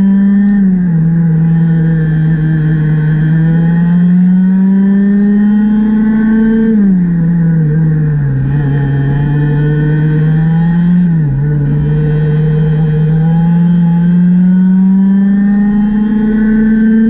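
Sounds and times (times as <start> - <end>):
kart engine revving: 0.0 - 17.0.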